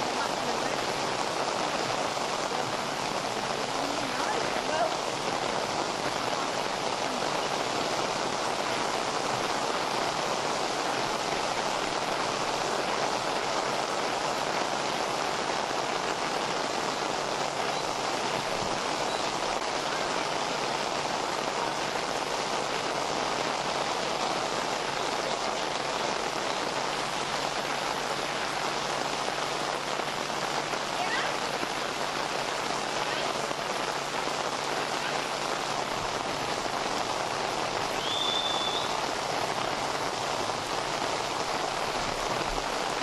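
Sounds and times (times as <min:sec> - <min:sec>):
water rushing: 0:00.0 - 0:43.0.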